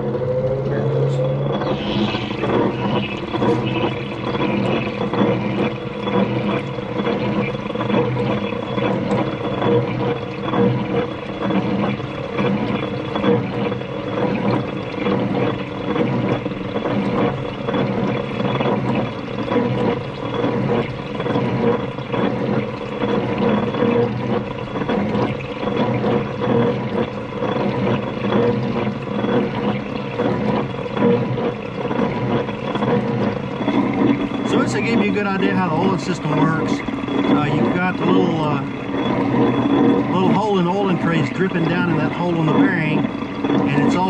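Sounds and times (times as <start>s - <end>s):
gearbox gear noise: 0.0s - 44.0s
oil splashing: 0.0s - 44.0s.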